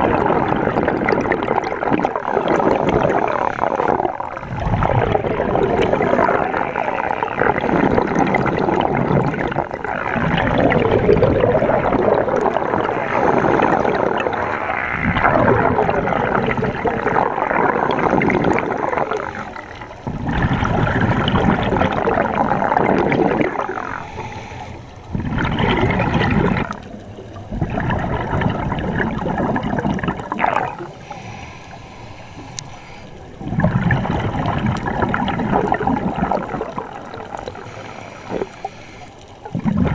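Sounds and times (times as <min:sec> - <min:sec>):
underwater exhaled air bubbling: 0:00.0 - 0:39.9.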